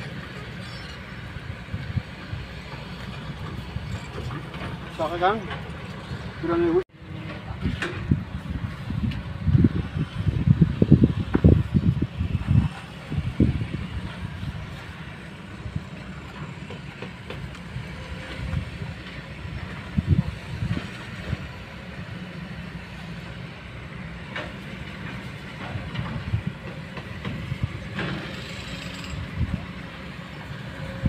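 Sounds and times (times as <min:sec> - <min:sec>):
excavator diesel engine rumble: 0:00.0 - 0:31.0.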